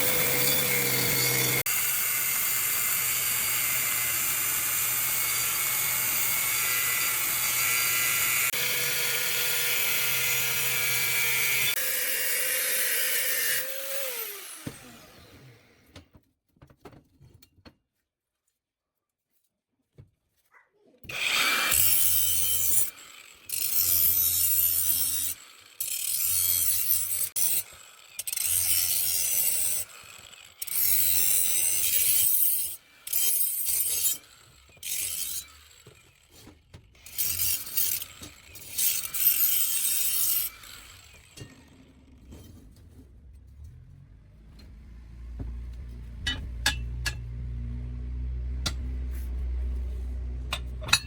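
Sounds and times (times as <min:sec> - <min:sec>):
power tool grinding: 0:00.0 - 0:15.9, 0:21.1 - 0:51.0.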